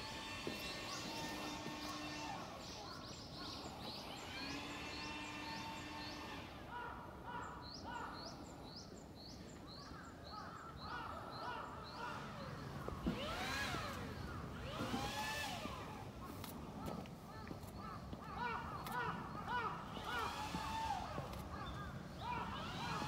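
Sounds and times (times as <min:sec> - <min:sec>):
outdoor background noise: 0:00.0 - 0:23.0
small birds chirping: 0:00.0 - 0:23.0.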